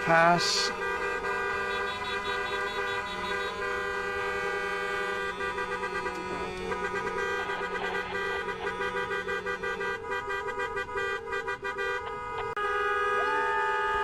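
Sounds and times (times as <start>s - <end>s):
car and truck horns honking: 0.0s - 14.0s.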